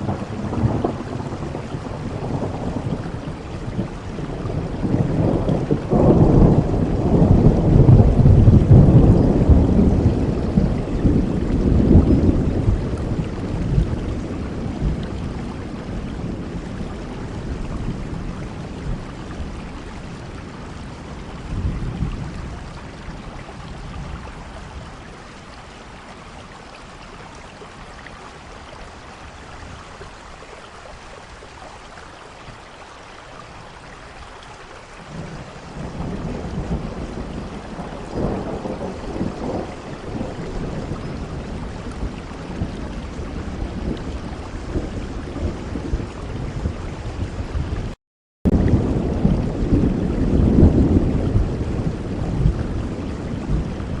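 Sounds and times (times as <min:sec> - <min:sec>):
thunder rumbling: 0:00.0 - 0:25.6, 0:35.0 - 0:54.0
steady rain: 0:00.0 - 0:54.0.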